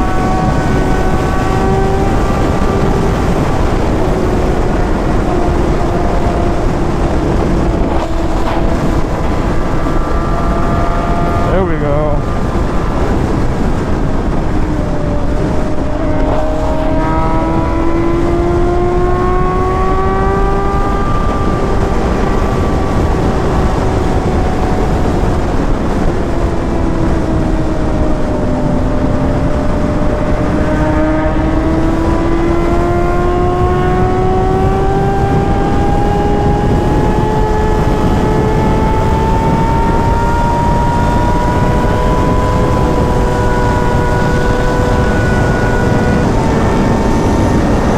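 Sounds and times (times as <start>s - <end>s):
motorcycle engine running: 0.0s - 47.9s
wind noise on microphone: 0.0s - 47.9s.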